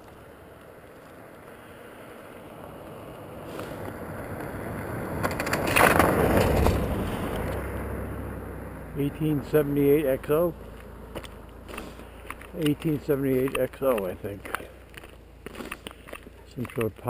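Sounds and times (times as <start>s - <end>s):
car passing by: 0.0s - 14.8s
tyres crackling on gravel: 0.0s - 17.0s.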